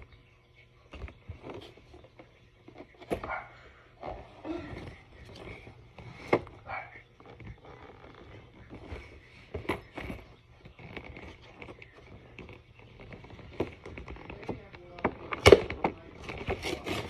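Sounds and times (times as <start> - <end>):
cardboard rustling and scraping: 0.9 - 17.0.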